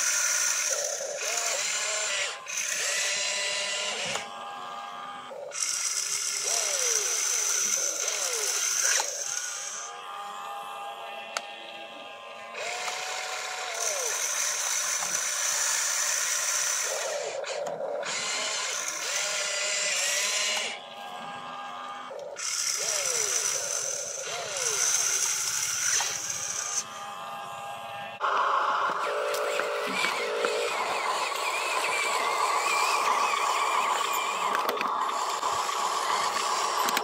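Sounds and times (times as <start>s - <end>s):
small electric motors whining: 0.0s - 37.0s.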